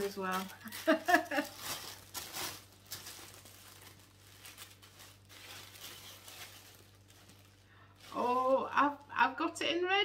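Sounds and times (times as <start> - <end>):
tissue paper rustling and crinkling: 0.0 - 9.1
faint steady hum: 0.0 - 10.0.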